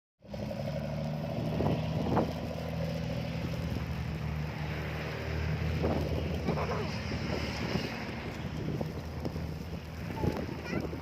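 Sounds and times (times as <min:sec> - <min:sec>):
low engine hum: 0:00.2 - 0:11.0.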